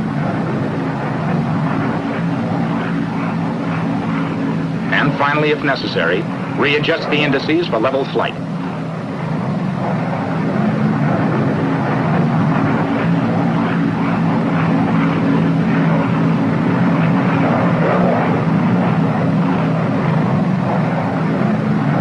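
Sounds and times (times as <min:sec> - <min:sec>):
aircraft piston engines droning: 0:00.0 - 0:22.0.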